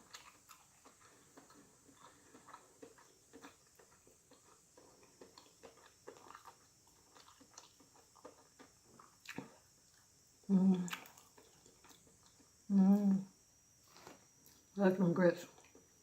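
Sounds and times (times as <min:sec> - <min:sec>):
person chewing: 0:00.0 - 0:10.1, 0:10.7 - 0:12.6, 0:13.8 - 0:14.7, 0:15.5 - 0:16.0.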